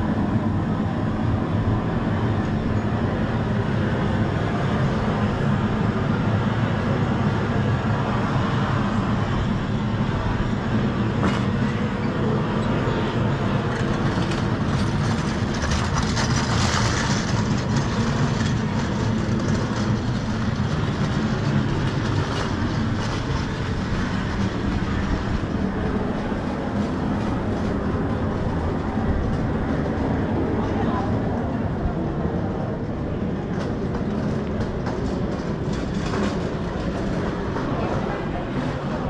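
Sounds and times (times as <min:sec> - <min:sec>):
passing vehicles rumble: 0:00.0 - 0:39.0.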